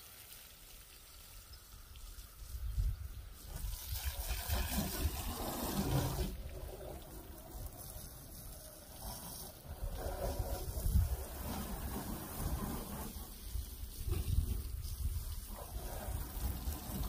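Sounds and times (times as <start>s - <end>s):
hose spraying water on truck: 0.0s - 17.0s.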